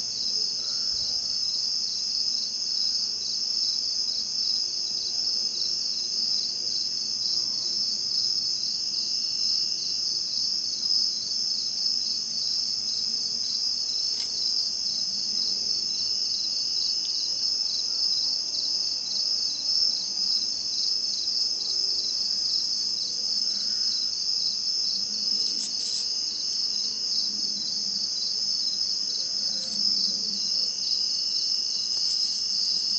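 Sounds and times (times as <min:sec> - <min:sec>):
crickets trilling: 0:00.0 - 0:32.9
lower insect trill: 0:00.0 - 0:32.9.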